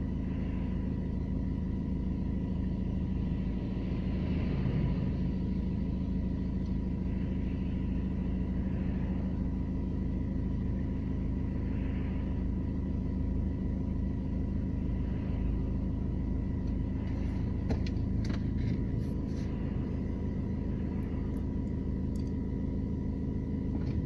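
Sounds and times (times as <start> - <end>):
diesel engine drone: 0.0 - 24.0
high engine whine: 0.0 - 24.0.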